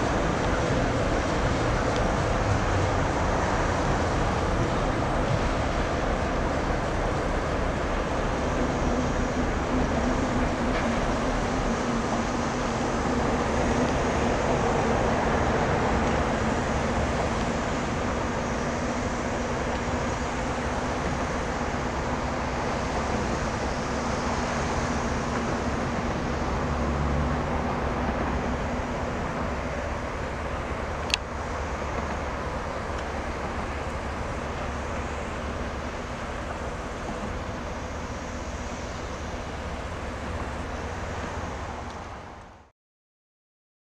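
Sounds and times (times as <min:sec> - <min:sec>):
diesel locomotive engine running: 0:00.0 - 0:42.7.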